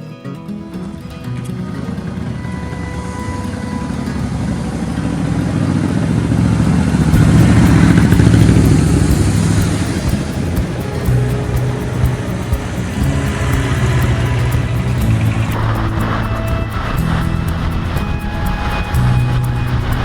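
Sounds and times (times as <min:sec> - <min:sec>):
motorcycle passing by: 0:01.4 - 0:20.0.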